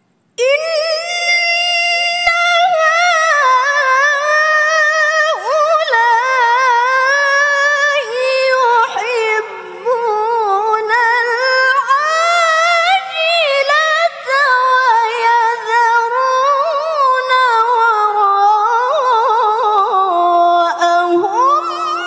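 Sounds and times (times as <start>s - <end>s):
woman reciting melodically: 0.2s - 22.0s.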